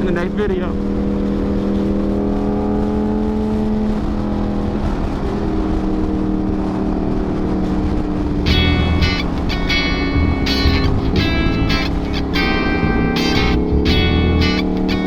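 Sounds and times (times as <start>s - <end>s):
motorcycle engine running: 0.0s - 4.8s, 5.8s - 15.0s
wind noise over microphone: 0.7s - 13.0s.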